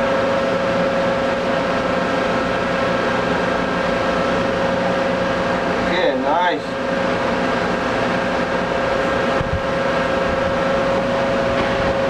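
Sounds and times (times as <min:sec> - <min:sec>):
machine droning with whine: 0:00.0 - 0:12.0.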